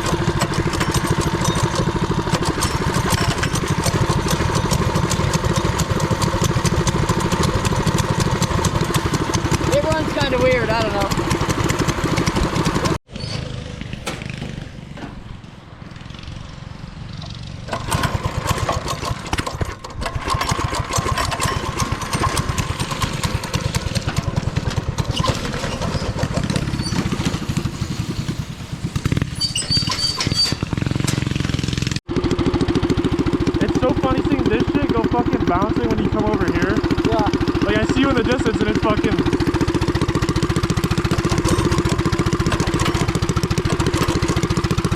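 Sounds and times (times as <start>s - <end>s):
small engine running under throttle: 0.0s - 14.8s, 15.9s - 44.9s.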